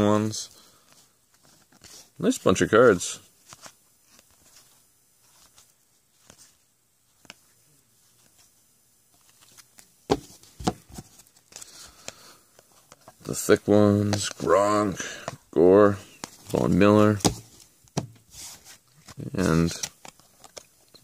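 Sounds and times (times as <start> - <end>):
trading cards shuffling: 0.0 - 21.0.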